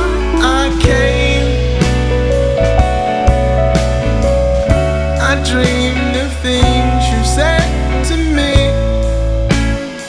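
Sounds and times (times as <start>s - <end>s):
song with guitar bass and drums: 0.0s - 10.0s.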